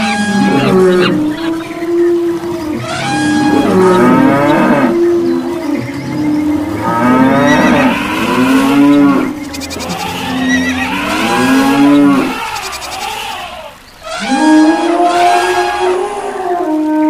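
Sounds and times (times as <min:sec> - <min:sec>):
cattle mooing: 0:00.0 - 0:17.0.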